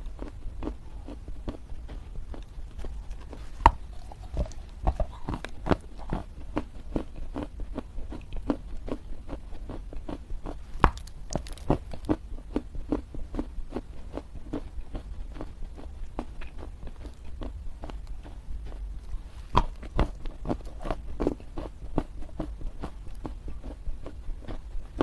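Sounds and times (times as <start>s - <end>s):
earth crunching as it is chewed: 0.0s - 25.0s.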